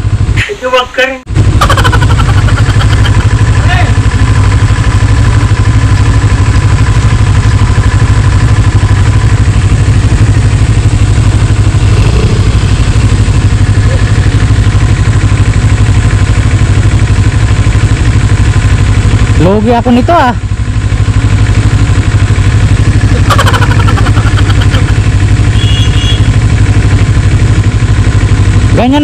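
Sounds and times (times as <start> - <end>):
motorcycle engine running at low revs: 0.0 - 0.5, 1.3 - 29.0.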